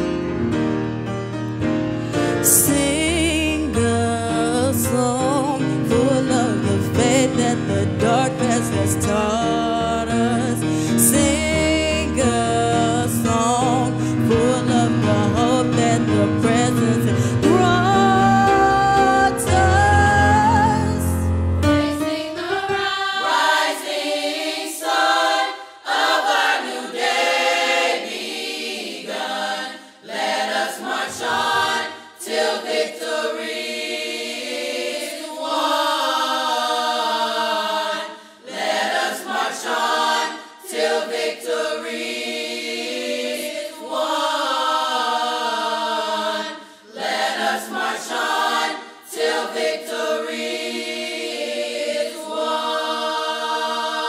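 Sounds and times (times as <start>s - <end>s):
choir singing a hymn: 2.4s - 54.0s.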